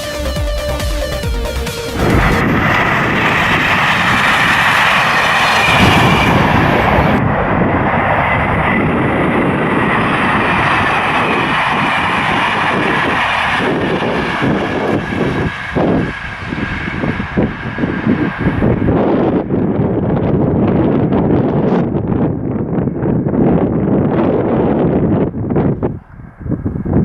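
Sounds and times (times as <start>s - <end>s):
train passing at speed: 1.1s - 27.0s.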